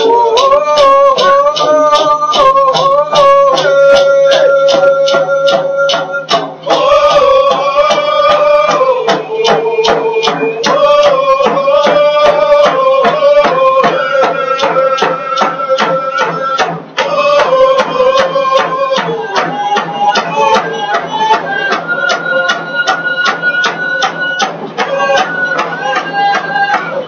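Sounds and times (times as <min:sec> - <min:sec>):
man singing: 0:00.0 - 0:27.0
steady beat: 0:00.0 - 0:27.0.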